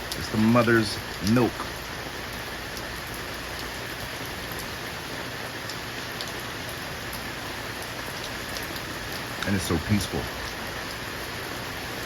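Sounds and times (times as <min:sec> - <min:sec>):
rain pattering on leaves: 0:00.0 - 0:12.0
steady rain falling: 0:00.0 - 0:12.0.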